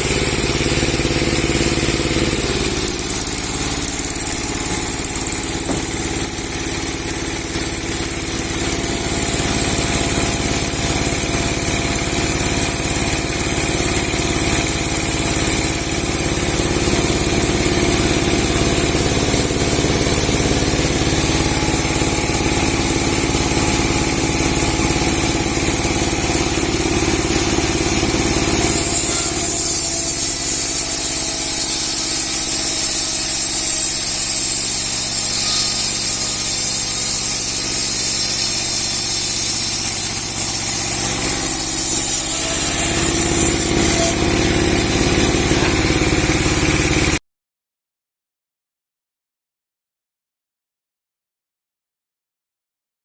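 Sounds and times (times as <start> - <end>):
saw blade ripping log: 0.0 - 11.8, 14.9 - 47.2
sawmill engine humming: 0.0 - 47.2.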